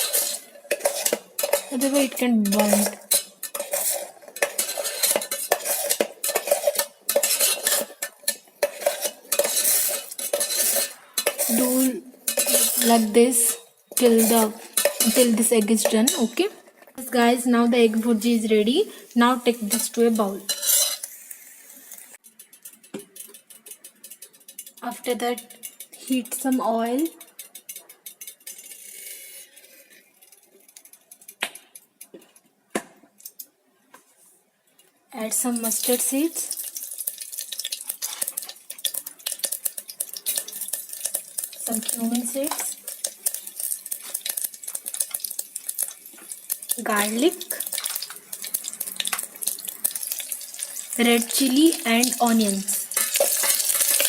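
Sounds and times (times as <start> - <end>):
spoon scraping metal pot: 0.0 - 17.2, 18.1 - 21.1, 22.3 - 31.3, 35.6 - 50.2, 50.9 - 54.0.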